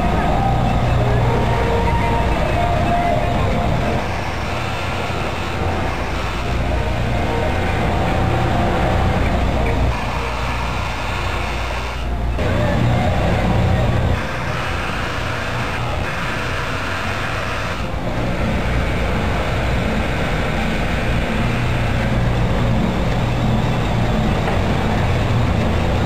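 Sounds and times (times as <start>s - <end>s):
sewing machine running: 0.0s - 26.0s.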